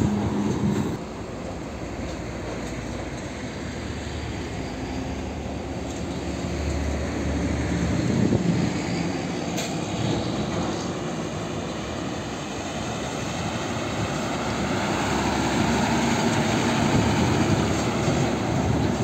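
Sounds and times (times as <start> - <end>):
diesel trucks moving off: 0.0 - 19.0.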